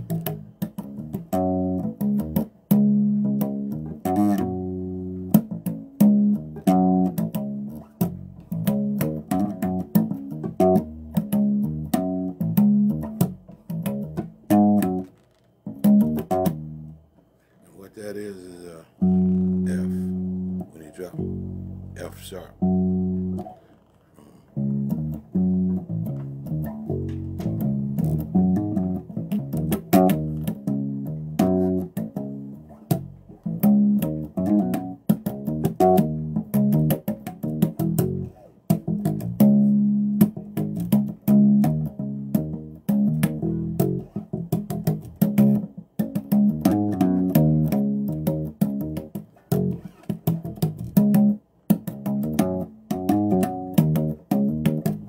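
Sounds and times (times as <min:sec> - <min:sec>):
bass guitar plucked notes: 0:00.0 - 0:17.2, 0:18.0 - 0:23.7, 0:24.3 - 0:55.0
bass string clicks: 0:00.0 - 0:17.3, 0:19.0 - 0:55.0.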